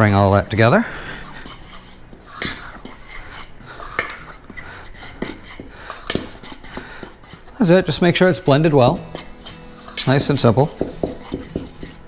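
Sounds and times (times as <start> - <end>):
utensil clinking against metal bowl: 0.0 - 12.0
utensil scraping metal bowl: 0.0 - 12.0.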